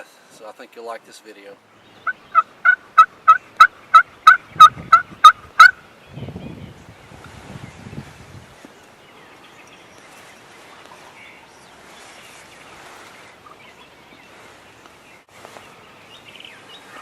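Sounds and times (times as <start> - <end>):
steady background hiss: 0.0 - 17.0
faint songbird chirps: 1.6 - 17.0.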